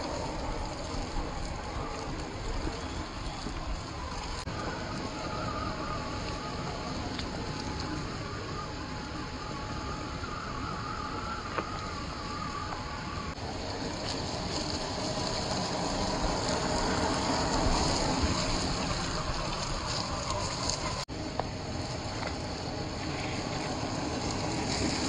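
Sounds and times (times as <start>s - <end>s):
electric motors whining: 0.0s - 25.0s
tyres over rocks and leaves: 0.0s - 25.0s.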